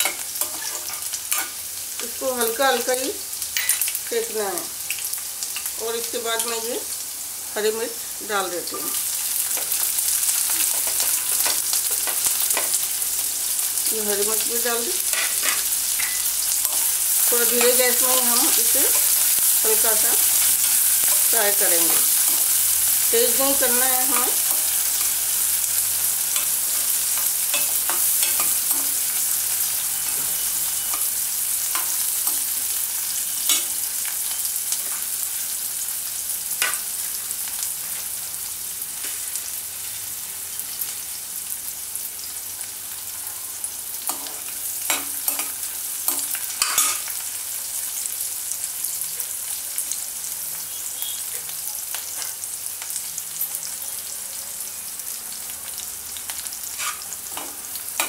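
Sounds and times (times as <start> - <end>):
chillies sizzling in oil: 0.0 - 58.0.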